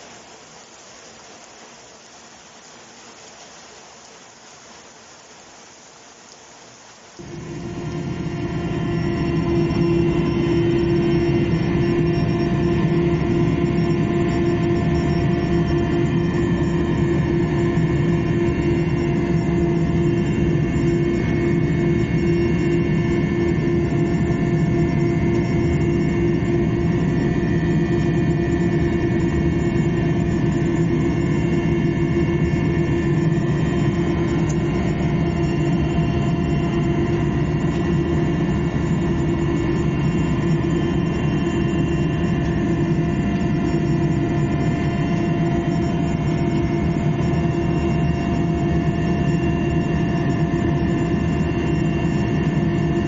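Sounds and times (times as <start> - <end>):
aircraft cabin engine drone: 7.1 - 53.0.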